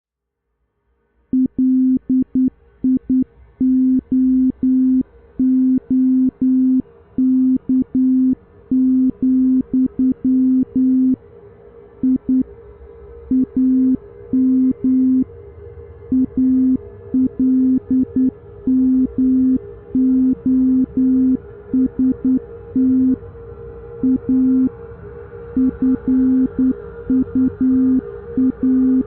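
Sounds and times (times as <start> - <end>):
faint hum: 0.8 - 29.0
low electronic beeps: 1.4 - 11.2, 12.0 - 12.5, 13.3 - 15.3, 16.1 - 23.2, 24.0 - 24.8, 25.5 - 29.0.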